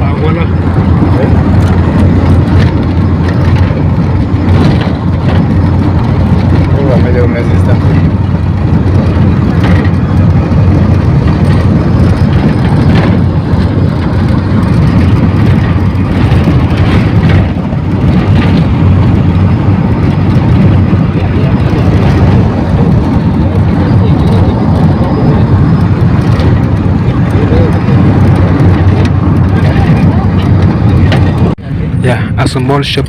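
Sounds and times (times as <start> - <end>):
road noise: 0.0 - 33.0
vehicle engine rumble: 0.0 - 33.0.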